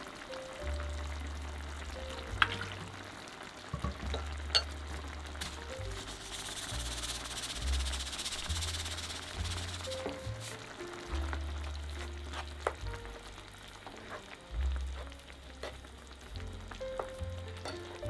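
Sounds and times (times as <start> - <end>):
sauce sizzling in a frying pan: 0.0 - 18.0
soft background music with bass: 0.0 - 18.0.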